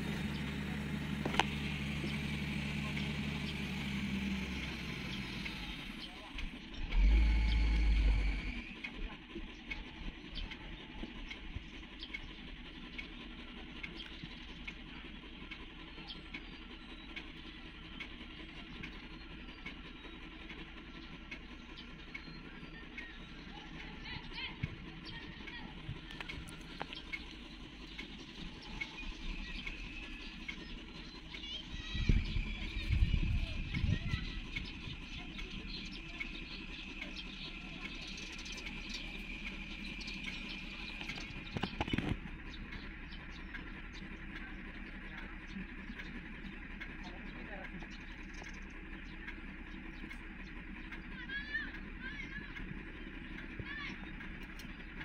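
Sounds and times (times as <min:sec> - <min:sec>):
diesel engine idling: 0:00.0 - 0:55.0
light sharp ticks: 0:00.1 - 0:24.0, 0:33.4 - 0:55.0.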